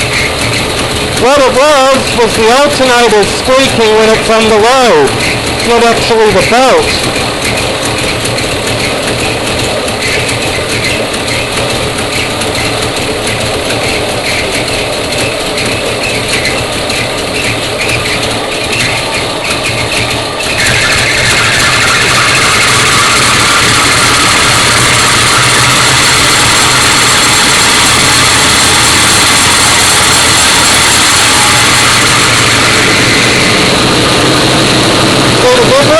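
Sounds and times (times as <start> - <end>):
alternator squealing: 0.0 - 35.9
car engine running: 0.0 - 35.9.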